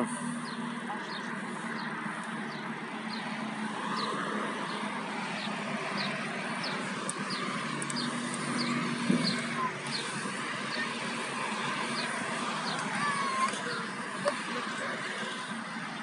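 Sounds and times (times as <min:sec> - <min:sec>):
bicycle tyres rolling: 0:00.0 - 0:16.0
wind: 0:00.0 - 0:16.0.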